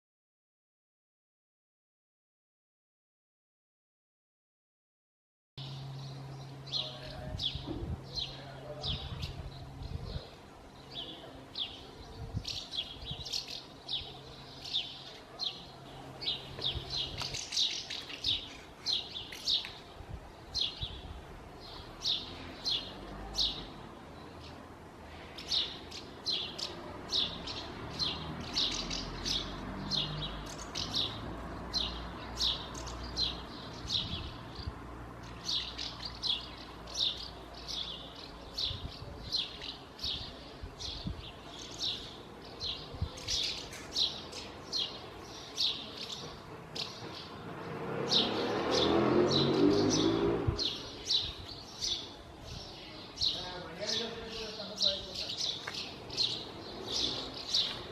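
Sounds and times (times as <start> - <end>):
house martins chirping: 5.6 - 57.9.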